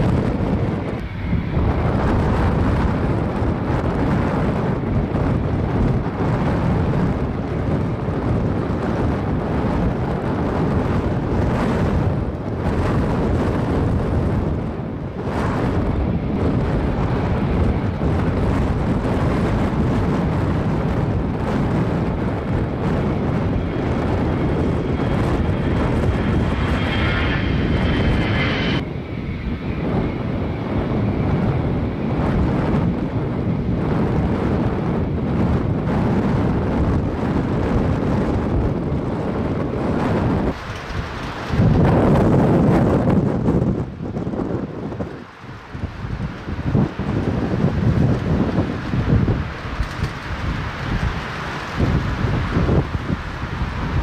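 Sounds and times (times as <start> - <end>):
jet engines running: 0.0 - 54.0
wind buffeting microphone: 0.0 - 54.0.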